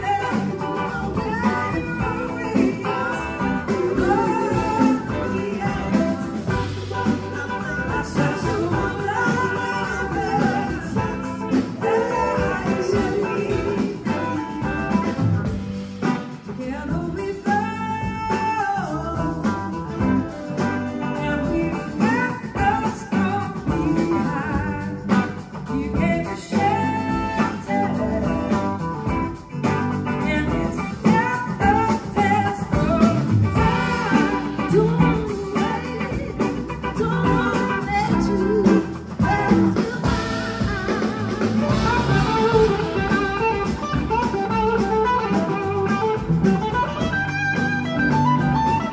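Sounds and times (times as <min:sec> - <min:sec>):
woman singing lead vocal: 0:00.0 - 0:47.2
drums: 0:00.0 - 0:48.9
electric guitars: 0:00.0 - 0:48.9.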